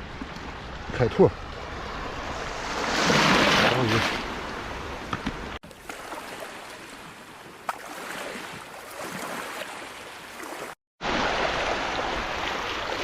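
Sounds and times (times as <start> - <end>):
seawater washing on beach: 0.0 - 13.0.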